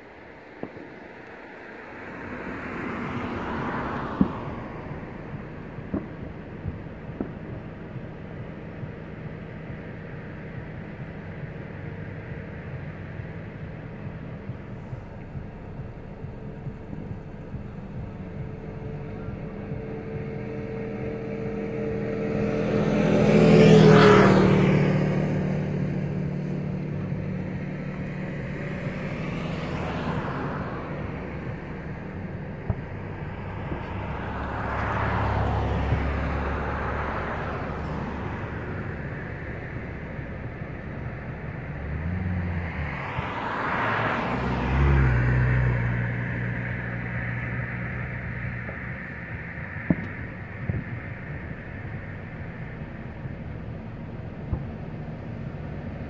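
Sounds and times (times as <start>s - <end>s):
road vehicles passing: 0.0s - 56.0s.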